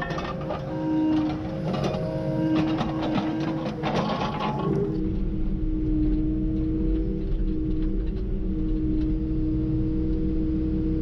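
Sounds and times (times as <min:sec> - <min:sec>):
excavator diesel engine running: 0:00.0 - 0:09.7
hydraulic whine: 0:00.0 - 0:10.8.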